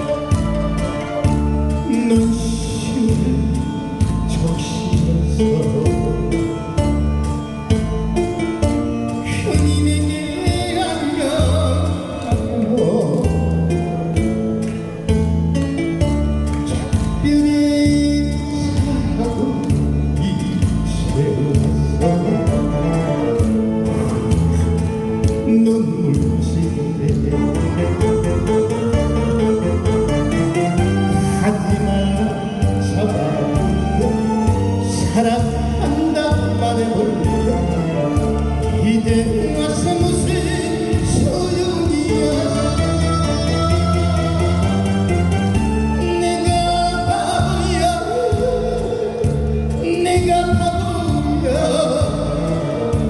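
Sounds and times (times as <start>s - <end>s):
man singing into microphone: 0.0s - 7.8s, 8.4s - 15.1s, 16.6s - 53.0s
backing track with steady beat: 0.0s - 53.0s.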